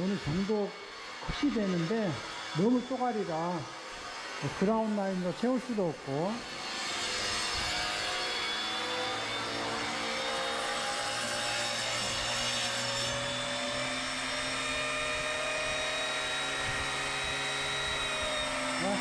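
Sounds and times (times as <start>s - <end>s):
electric tile saw cutting: 0.0s - 19.0s.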